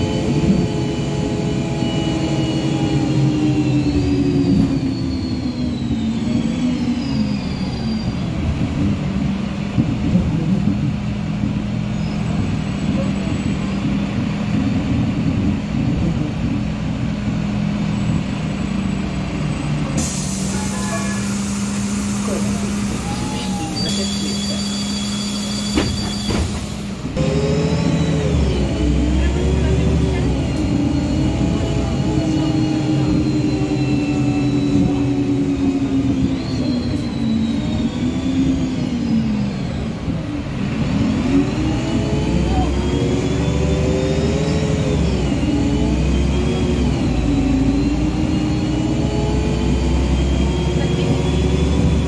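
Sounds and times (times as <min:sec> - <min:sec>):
bus diesel engine humming: 0:00.0 - 0:52.0.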